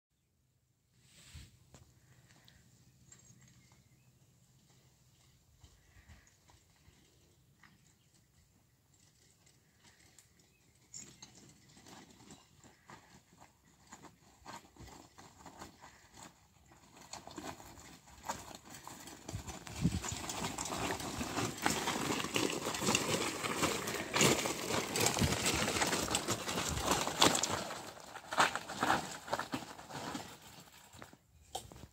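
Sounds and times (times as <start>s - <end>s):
tyres crunching on rocky track: 2.0s - 31.9s.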